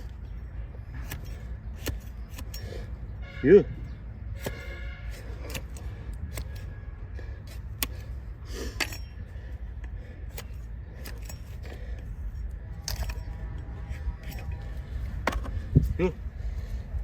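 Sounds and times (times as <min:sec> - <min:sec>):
low steady rumble: 0:00.0 - 0:17.0
knife scraping hoof: 0:00.8 - 0:02.9, 0:04.3 - 0:16.0.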